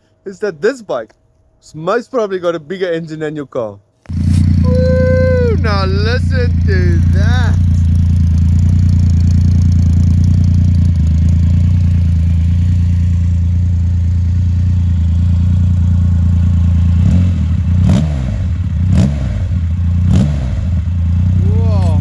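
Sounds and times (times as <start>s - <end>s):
motorcycle engine idling and revving: 4.1s - 22.0s.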